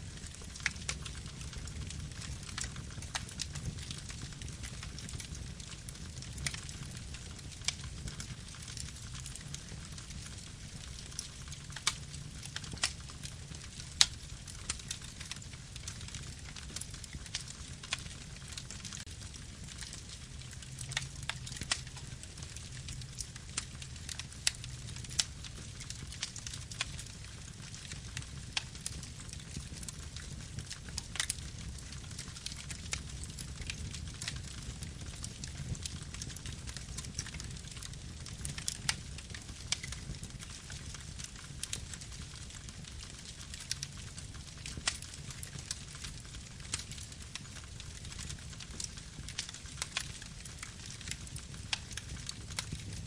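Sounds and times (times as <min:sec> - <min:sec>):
burning wood crackling and popping: 0:00.0 - 0:53.0
campfire flames rumbling: 0:00.0 - 0:53.0.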